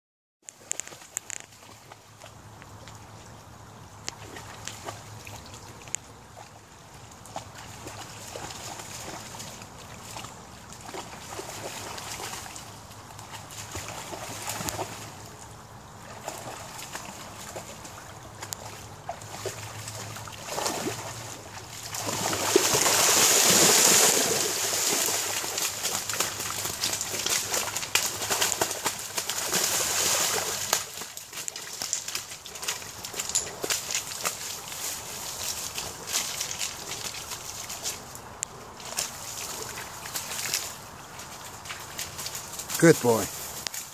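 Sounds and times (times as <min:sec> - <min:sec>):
dog splashing through water: 0:04.0 - 0:43.9.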